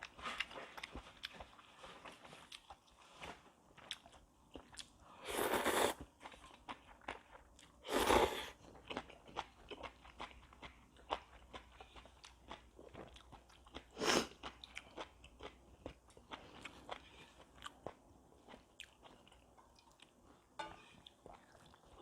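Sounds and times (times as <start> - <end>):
person chewing noodles: 0.0 - 22.0.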